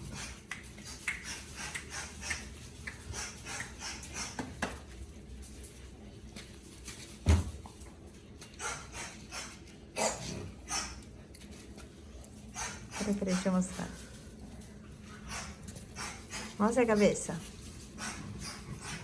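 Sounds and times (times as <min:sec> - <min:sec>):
puppies clicking on hard floor: 0:00.0 - 0:19.0.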